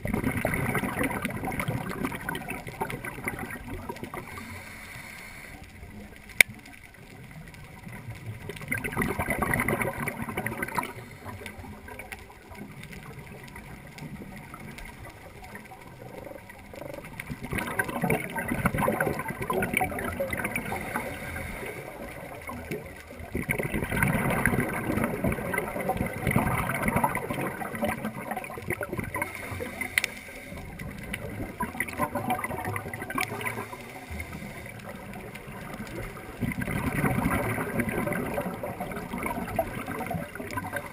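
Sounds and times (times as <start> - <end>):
gurgling regulator bubbles: 0.0 - 40.9
low underwater hiss: 0.0 - 40.9.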